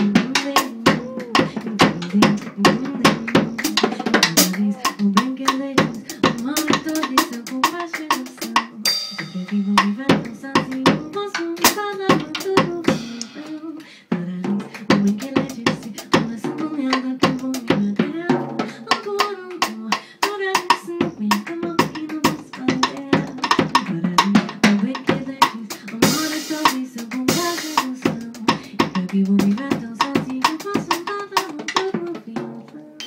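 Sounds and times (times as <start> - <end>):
fast drum-kit groove: 0.0 - 32.6
woman singing: 0.0 - 33.0.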